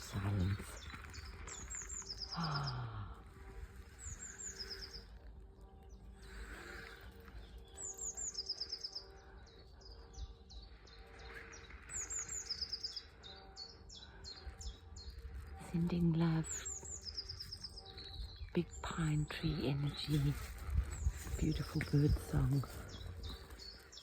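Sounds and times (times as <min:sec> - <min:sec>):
faint outdoor background: 0:00.0 - 0:24.0
songbirds singing: 0:00.0 - 0:24.0.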